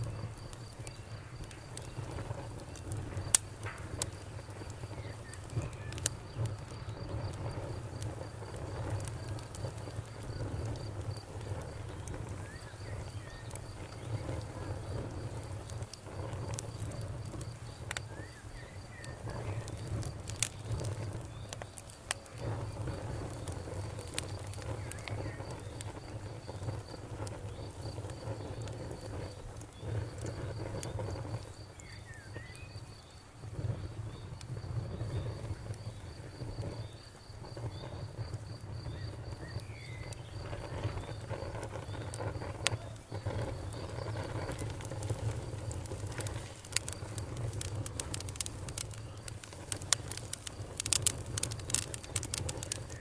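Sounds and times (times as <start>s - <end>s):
campfire crackling and popping: 0.0s - 53.0s
campfire low rumble: 0.0s - 53.0s
insect chirping: 0.0s - 53.0s.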